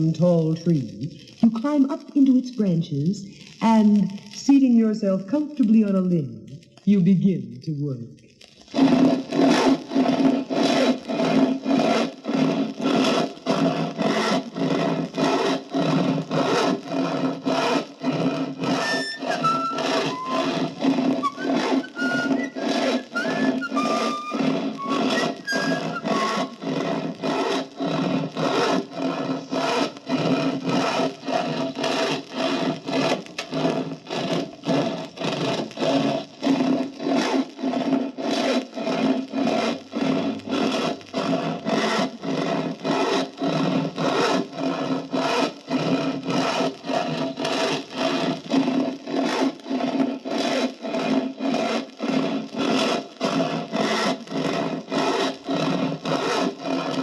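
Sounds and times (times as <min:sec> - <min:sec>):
hand saw cutting wood: 0:08.7 - 0:57.0.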